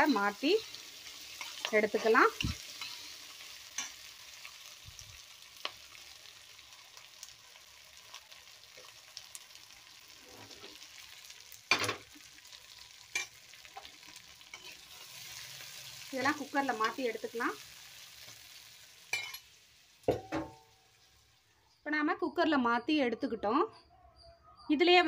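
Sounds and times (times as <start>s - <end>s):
vegetables sizzling in a pan: 0.0s - 21.5s.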